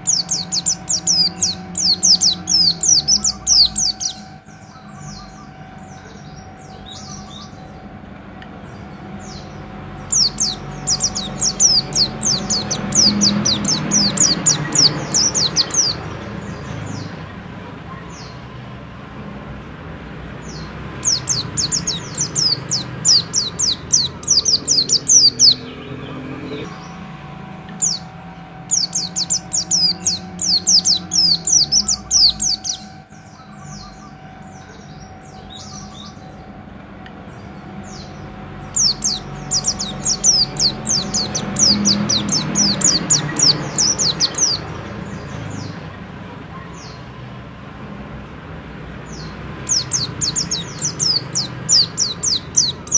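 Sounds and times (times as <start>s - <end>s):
bird singing high slurred notes: 0.0s - 47.3s, 48.7s - 52.9s.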